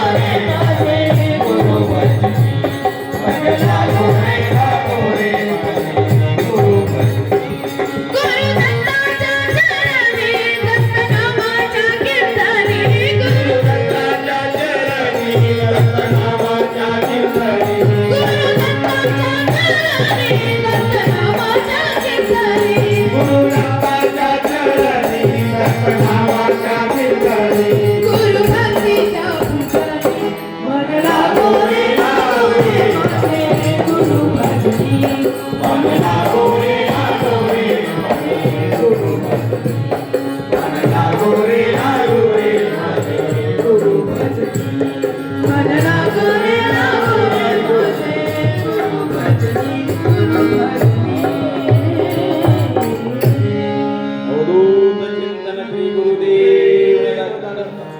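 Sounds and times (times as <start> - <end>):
dholak drum beat: 0.0 - 53.7
harmonium melody: 0.0 - 57.9
voices singing: 0.0 - 57.9.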